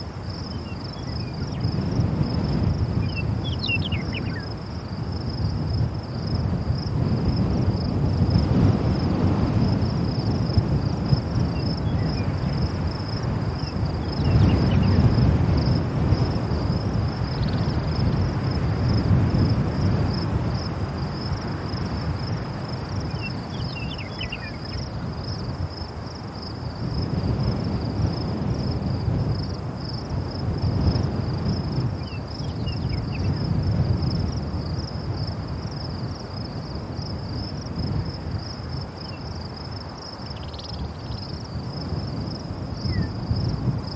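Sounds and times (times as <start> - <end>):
strong gusting wind: 0.0 - 43.9.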